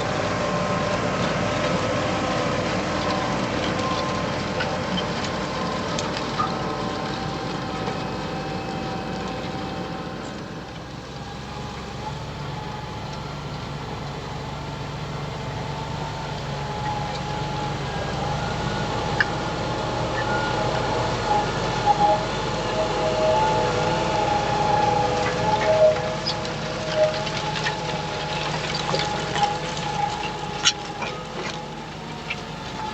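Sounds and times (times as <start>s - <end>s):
steady whine: 0.0s - 32.9s
tractor engine under load: 0.0s - 32.9s.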